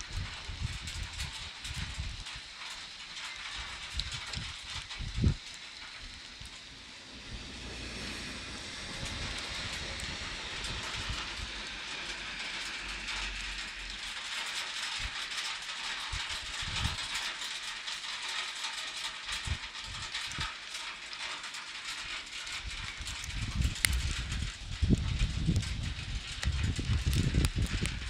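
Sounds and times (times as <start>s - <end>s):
hail and rain falling: 0.0s - 28.0s.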